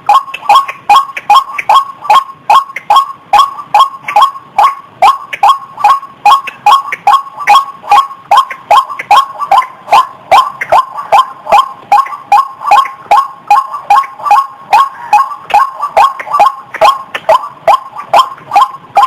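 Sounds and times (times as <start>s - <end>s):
waterhen calling wak notes: 0.0s - 19.0s.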